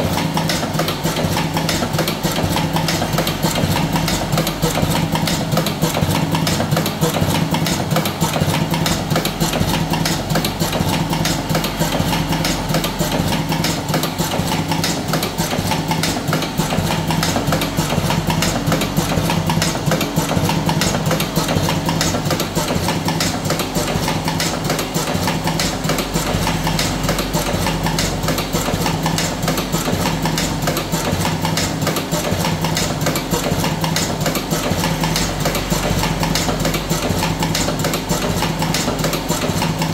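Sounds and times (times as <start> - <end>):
machine motor hum: 0.0 - 39.9
rapid mechanical clicking: 0.0 - 39.9.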